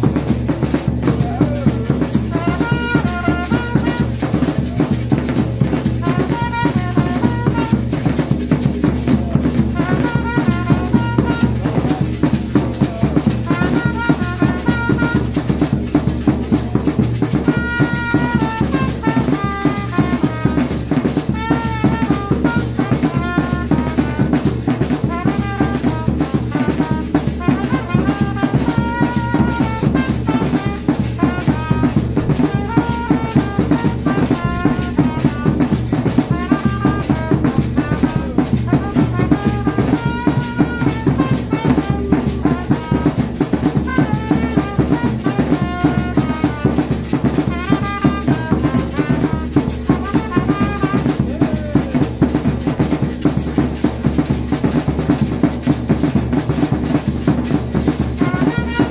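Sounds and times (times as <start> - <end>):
trumpet playing short phrases: 0.0 - 53.2, 57.4 - 58.9
large drums beating: 0.0 - 58.9.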